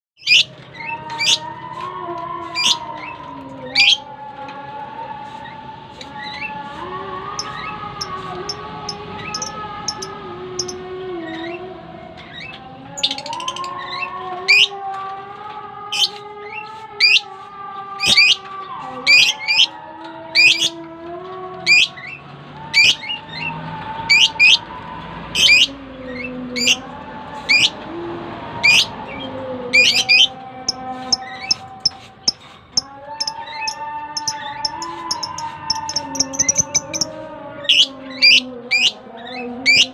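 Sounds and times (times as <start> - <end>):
faint background melody: 0.2 - 39.9.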